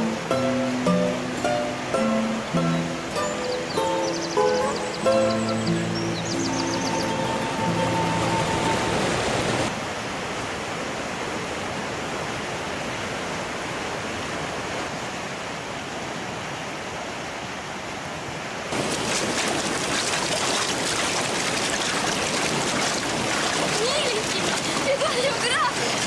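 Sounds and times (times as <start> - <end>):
water rushing over rapids: 0.0 - 26.0.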